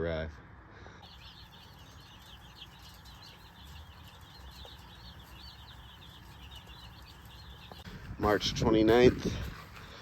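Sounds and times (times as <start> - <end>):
small birds chirping: 0.9 - 10.0.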